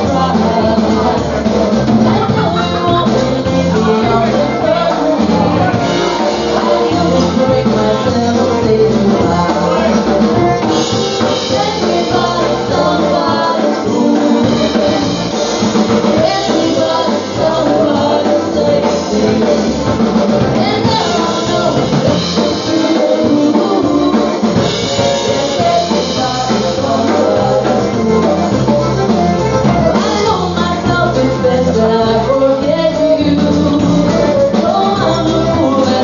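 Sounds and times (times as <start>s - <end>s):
bass line: 0.0s - 36.0s
drum kit beat: 0.0s - 36.0s
polka band playing: 0.0s - 36.0s.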